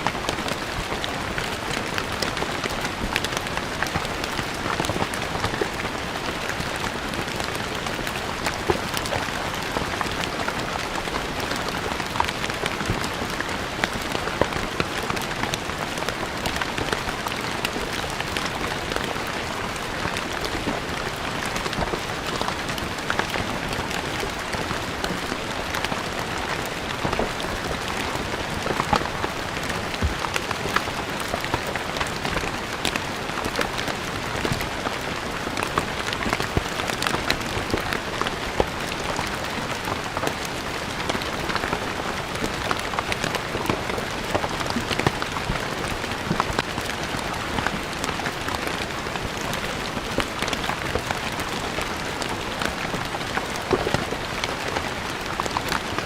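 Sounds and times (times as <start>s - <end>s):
rain on stone paving: 0.0s - 56.0s.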